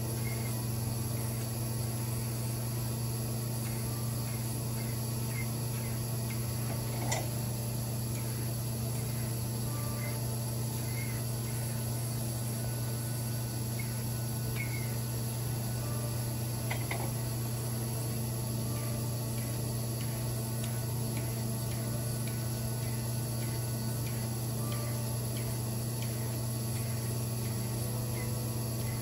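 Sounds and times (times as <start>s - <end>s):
pump low hum: 0.0s - 29.0s.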